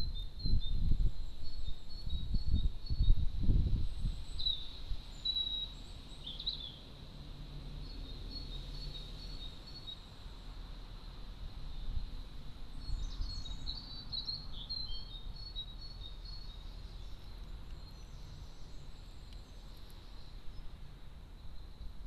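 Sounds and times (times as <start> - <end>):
small birds chirping: 0.0 - 7.0, 7.8 - 10.2, 11.6 - 22.0.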